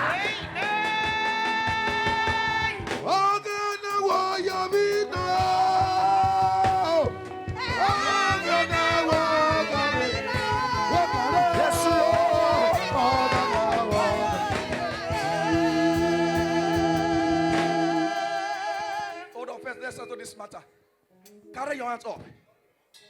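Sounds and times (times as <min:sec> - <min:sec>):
steady drum beat: 0:00.0 - 0:18.9
gospel worship music: 0:00.0 - 0:22.4.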